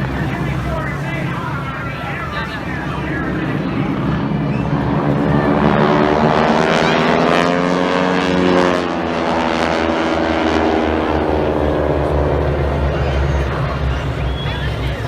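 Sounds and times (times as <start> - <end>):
aircraft flying overhead: 0.0 - 15.0.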